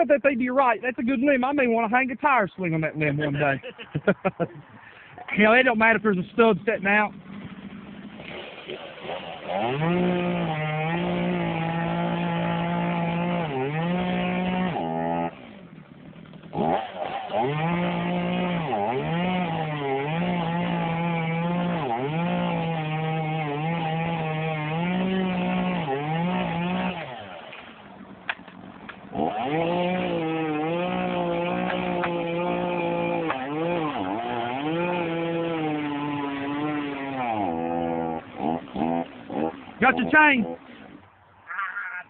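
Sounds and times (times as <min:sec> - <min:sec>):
chainsaw cutting wood: 0:02.9 - 0:41.2.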